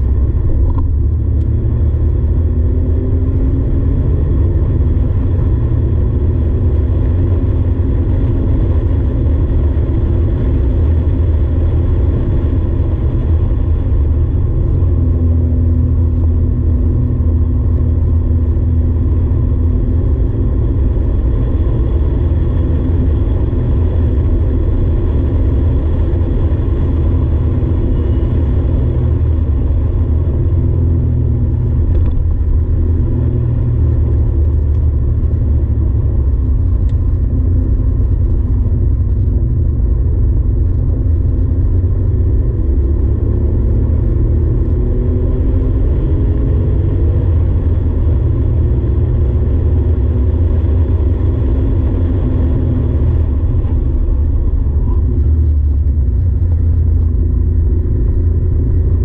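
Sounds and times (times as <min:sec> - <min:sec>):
car engine deep drone: 0:00.0 - 0:59.0
road and wind noise: 0:00.0 - 0:59.0.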